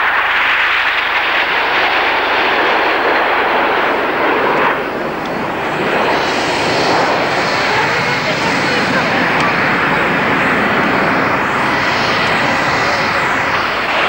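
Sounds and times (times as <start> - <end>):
jets flying in formation: 0.0 - 14.0.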